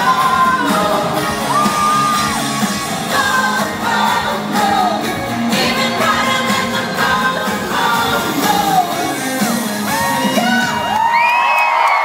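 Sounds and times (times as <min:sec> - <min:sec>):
live pop music with singing: 0:00.0 - 0:11.5.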